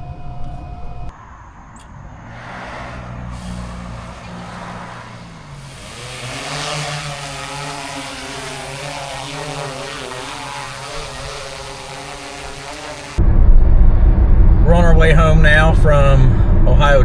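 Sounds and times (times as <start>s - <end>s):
drone propellers humming: 3.0s - 17.0s.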